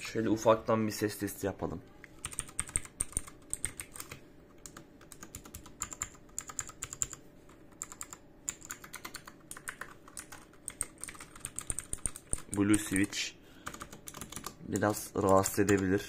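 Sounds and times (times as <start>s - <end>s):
clicky mechanical keyboard typing: 2.2s - 16.0s.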